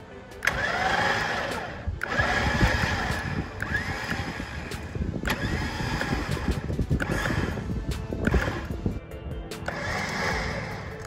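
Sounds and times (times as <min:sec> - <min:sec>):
electric winch motor whining: 0:00.4 - 0:09.0, 0:09.6 - 0:11.0.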